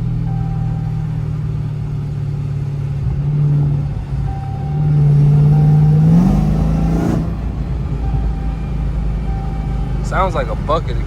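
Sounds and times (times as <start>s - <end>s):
car engine droning and revving: 0.0s - 11.0s.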